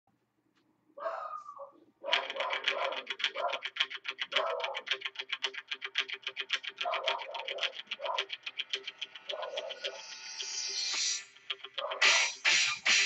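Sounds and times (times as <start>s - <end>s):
fast ticking pulse: 2.1s - 13.0s.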